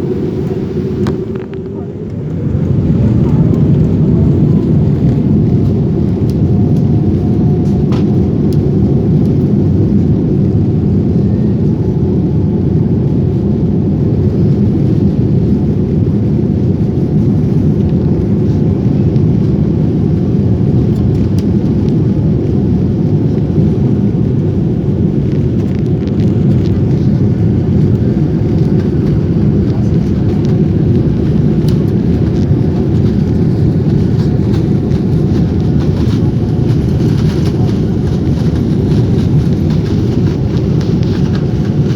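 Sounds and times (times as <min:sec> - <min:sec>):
airliner engines rumbling: 0:00.0 - 0:41.9
faint engine whine: 0:00.0 - 0:41.9.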